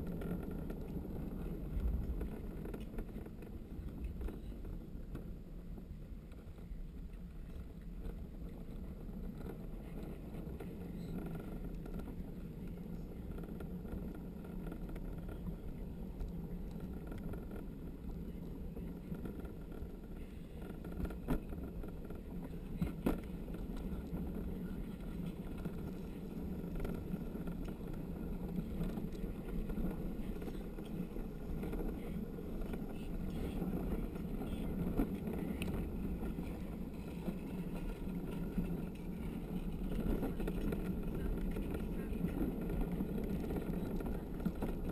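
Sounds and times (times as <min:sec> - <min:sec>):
wheels rumbling on concrete track: 0:00.0 - 0:44.9
wind noise: 0:00.0 - 0:44.9.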